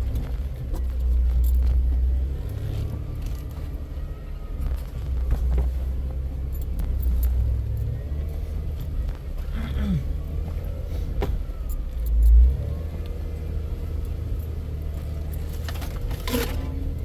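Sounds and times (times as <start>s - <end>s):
body clicks and rattles: 0.0s - 17.0s
off-road vehicle engine rumble: 0.0s - 17.0s.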